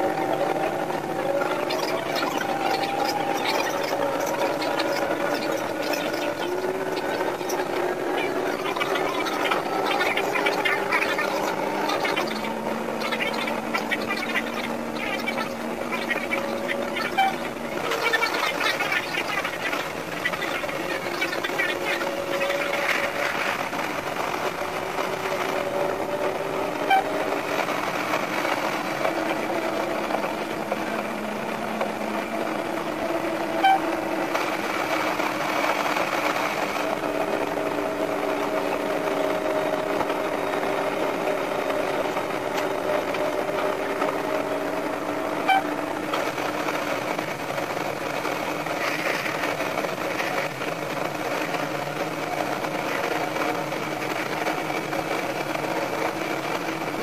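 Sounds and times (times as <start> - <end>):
faint engine hum: 0.0 - 57.0
railcar mechanical drone: 0.0 - 57.0.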